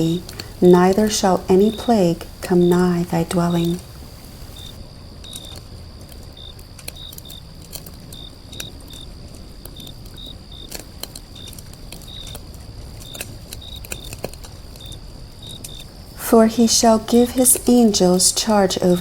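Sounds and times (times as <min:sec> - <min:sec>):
crickets chirping: 0:00.0 - 0:19.0
insect trill: 0:00.0 - 0:19.0
low background hiss: 0:00.0 - 0:19.0.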